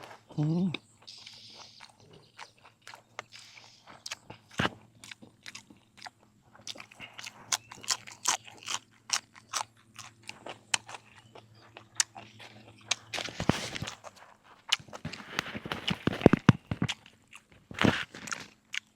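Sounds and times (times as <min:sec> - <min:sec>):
person chewing crunchy food: 0:00.0 - 0:18.9.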